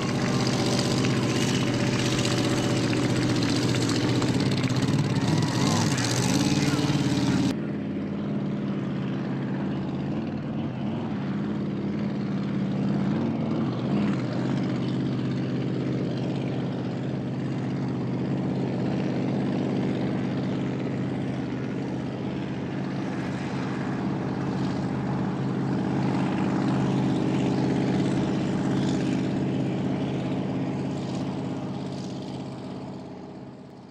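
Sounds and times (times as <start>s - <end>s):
engine droning: 0.0s - 33.9s.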